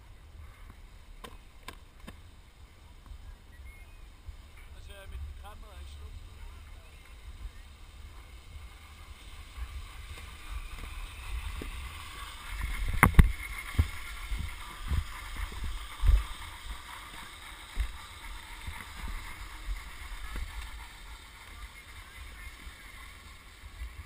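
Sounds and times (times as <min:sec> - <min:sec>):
wind rumble on microphone: 0:02.9 - 0:24.0
snowboard scraping on snow: 0:04.3 - 0:24.0.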